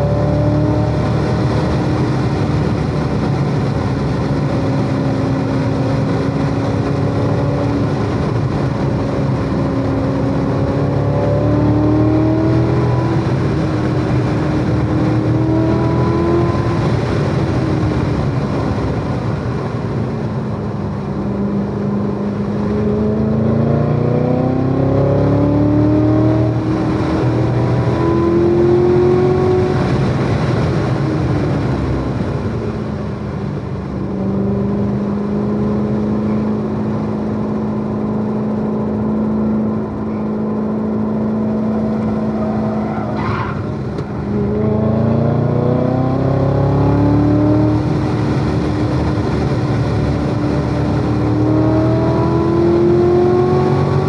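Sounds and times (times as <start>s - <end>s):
sports car engine revving: 0.0s - 18.8s, 20.9s - 32.1s, 33.8s - 54.0s.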